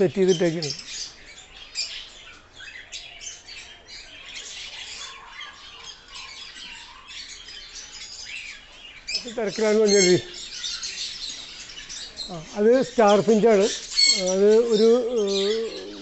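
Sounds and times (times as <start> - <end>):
cage birds chirping: 0.0 - 16.0.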